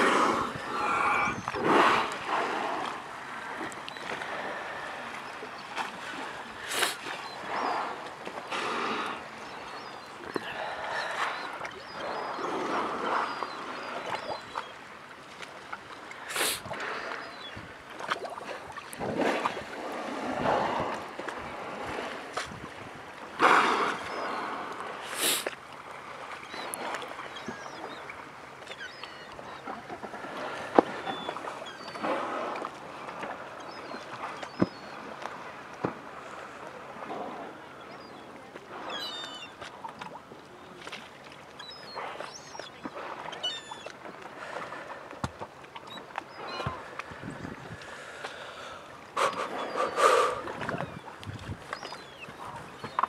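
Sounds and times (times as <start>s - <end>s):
whales blowing: 0.0s - 14.7s, 16.1s - 39.7s, 45.8s - 53.0s
seabird calls: 0.0s - 53.0s
water lapping against boat: 0.0s - 53.0s.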